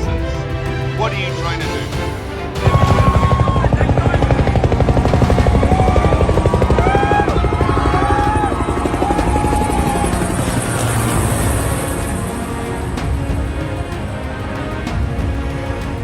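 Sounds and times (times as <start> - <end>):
helicopter rotor chop: 0.0 - 16.0.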